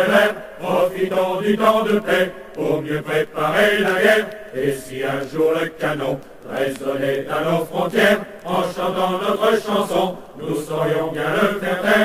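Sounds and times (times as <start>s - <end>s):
low voices chanting: 0.0s - 12.0s.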